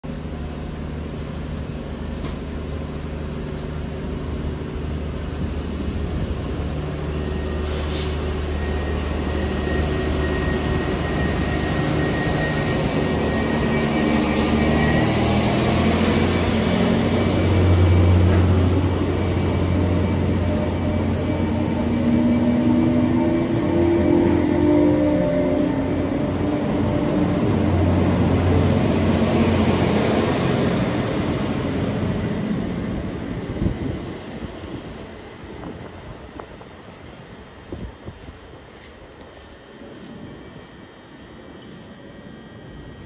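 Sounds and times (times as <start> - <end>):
diesel train engine drone: 0.0 - 43.0.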